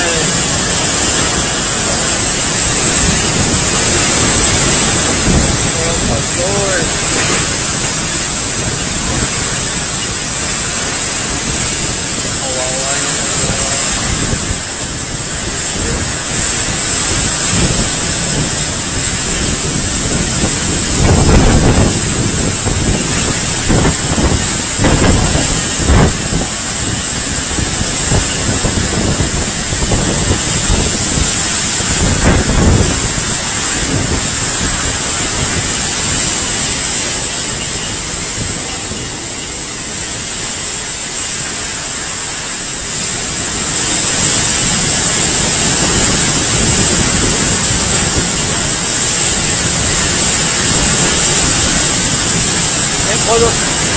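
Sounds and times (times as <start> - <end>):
driving rain: 0.0 - 53.9
strong wind gusts: 0.0 - 53.9.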